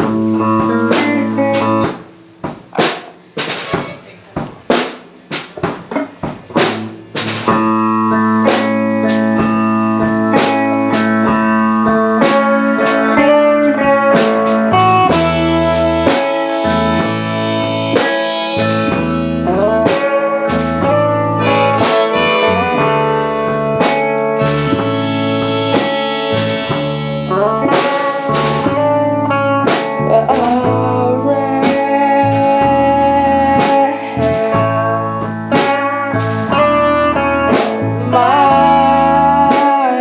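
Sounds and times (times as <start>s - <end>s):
drums: 0.0s - 40.0s
live rock band playing: 0.0s - 40.0s.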